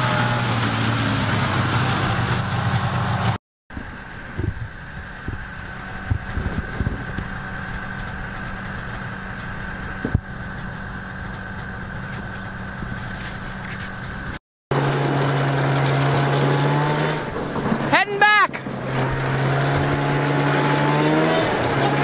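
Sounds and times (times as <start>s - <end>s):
snowmobile engine idling: 0.0s - 20.4s
low-pitched engine running close by: 0.0s - 22.0s.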